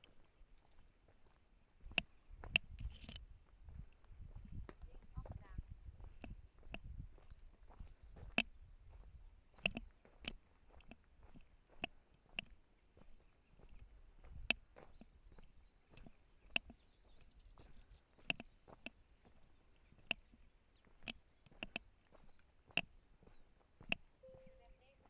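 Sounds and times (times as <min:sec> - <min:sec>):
footsteps on a trail: 0:00.0 - 0:16.8, 0:18.3 - 0:25.0.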